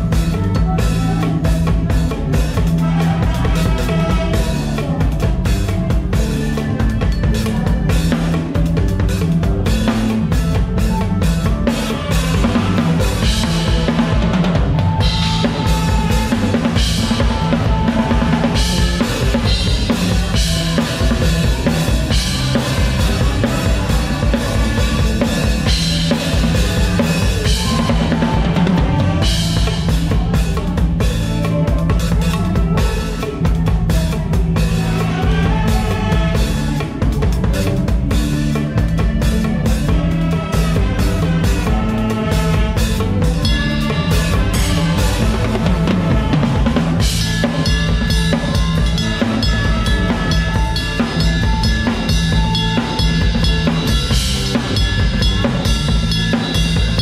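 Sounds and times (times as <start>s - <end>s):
drum kit beat: 0.0s - 57.0s
live band playing: 0.0s - 57.0s.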